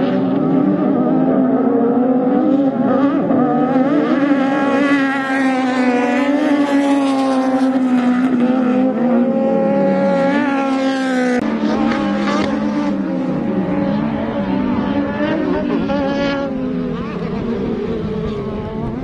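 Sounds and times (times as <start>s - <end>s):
buggy engines revving: 0.0s - 19.0s.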